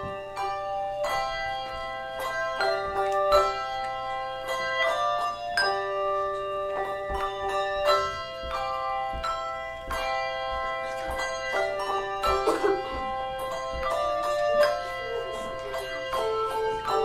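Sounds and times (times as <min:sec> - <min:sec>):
handbell choir playing: 0:00.0 - 0:17.0.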